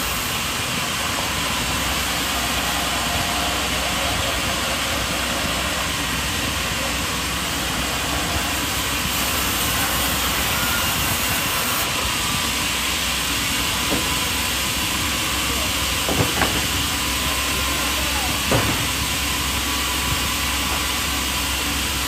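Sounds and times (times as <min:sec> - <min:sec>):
machinery running: 0:00.0 - 0:22.0.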